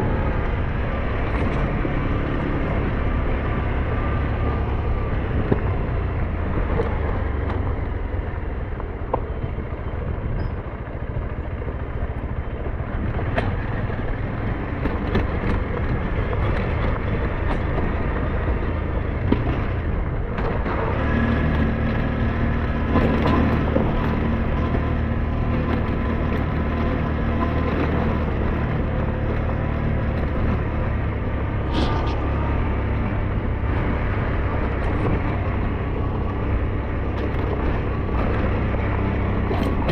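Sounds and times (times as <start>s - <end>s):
motorcycle engine running: 0.0s - 39.9s
road and wind rumble: 0.0s - 39.9s.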